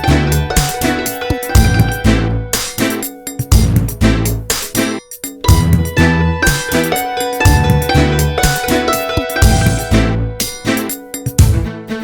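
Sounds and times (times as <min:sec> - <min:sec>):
hammered dulcimer music: 0:00.0 - 0:12.0.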